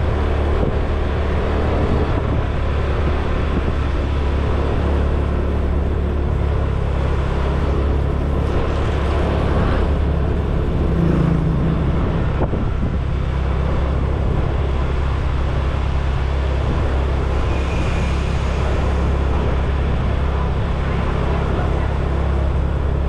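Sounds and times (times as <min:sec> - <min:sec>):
motor scooter engine drone: 0:00.0 - 0:23.0
road noise: 0:00.0 - 0:23.0.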